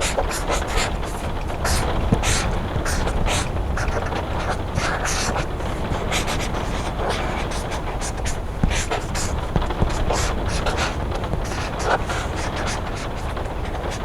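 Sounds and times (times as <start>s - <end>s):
pencil scratching on paper: 0.0s - 14.0s
rain rumbling: 0.0s - 14.0s.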